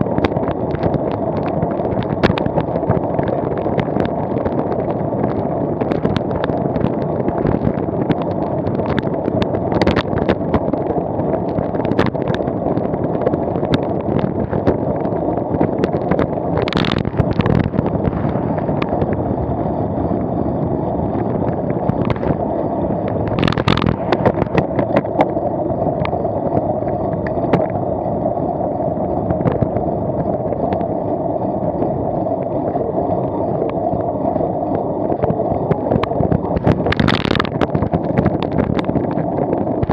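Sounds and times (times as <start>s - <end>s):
knocks and crackles from vibration: 0.0s - 39.9s
wind buffeting microphone: 0.0s - 39.9s.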